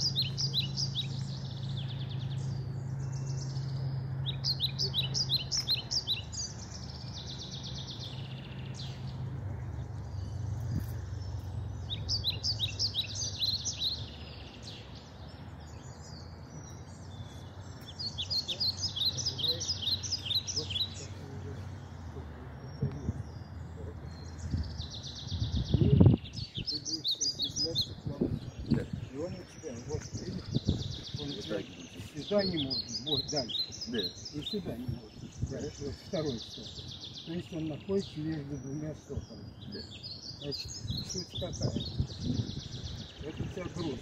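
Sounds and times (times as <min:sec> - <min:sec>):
songbird singing: 0:00.0 - 0:44.0.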